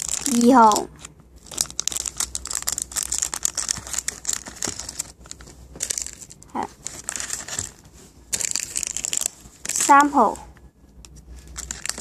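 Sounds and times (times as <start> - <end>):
plastic bags crinkling: 0.0 - 10.2, 11.4 - 12.0.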